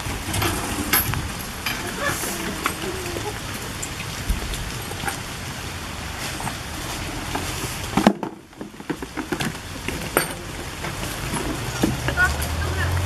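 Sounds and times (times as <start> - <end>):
light rain: 0.0 - 13.0
wind noise: 0.0 - 13.0.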